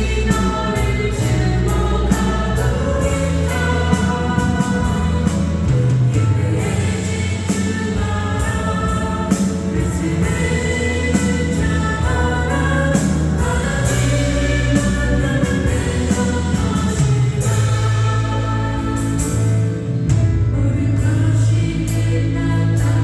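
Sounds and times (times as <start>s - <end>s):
people singing worship song: 0.0s - 23.0s
steady bass line: 0.0s - 23.0s.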